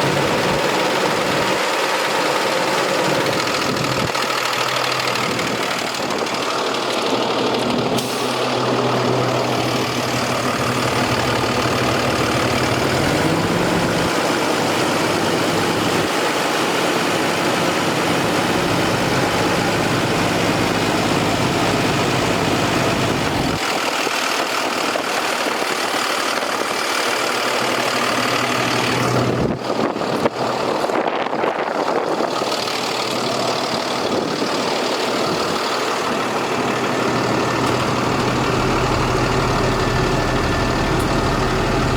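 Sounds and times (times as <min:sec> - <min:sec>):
diesel truck engine idling: 0:00.0 - 0:41.9.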